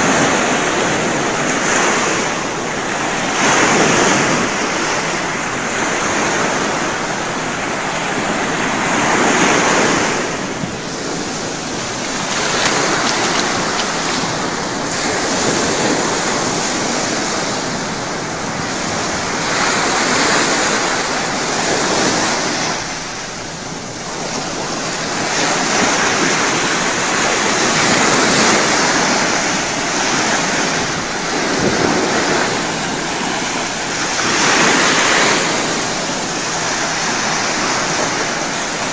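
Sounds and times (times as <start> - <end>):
ocean waves breaking: 0.0 - 38.9
wind on microphone: 0.0 - 38.9.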